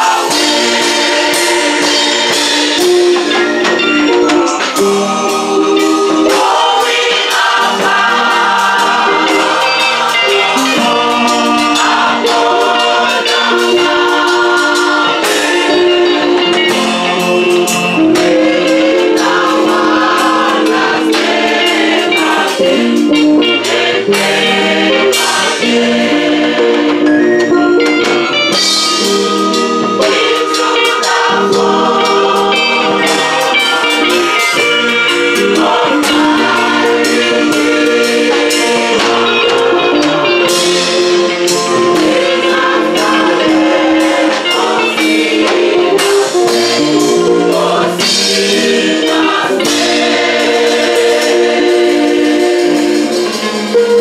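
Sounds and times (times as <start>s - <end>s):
choir singing a hymn: 0.0s - 54.0s
sharp percussive strikes: 0.0s - 54.0s.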